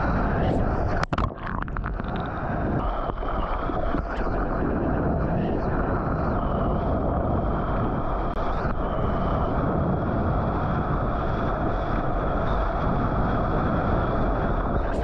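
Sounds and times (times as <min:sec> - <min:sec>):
seawater rushing: 0:00.0 - 0:14.8
wind noise on microphone: 0:00.0 - 0:15.0.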